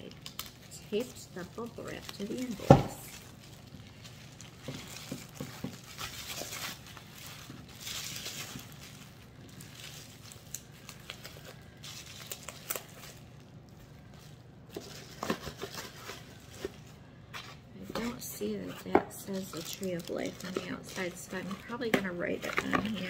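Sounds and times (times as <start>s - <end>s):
bubble wrap and paper crinkling: 0.0s - 23.0s.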